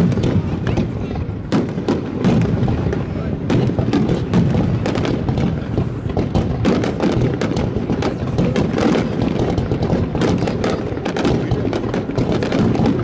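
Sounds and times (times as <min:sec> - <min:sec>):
sharp bangs and crackles: 0:00.0 - 0:13.0.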